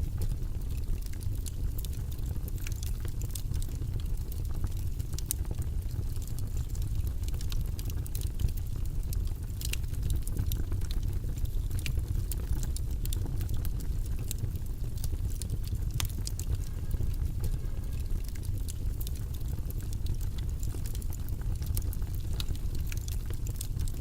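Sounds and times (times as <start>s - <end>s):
low rumbling white noise: 0.0s - 24.0s.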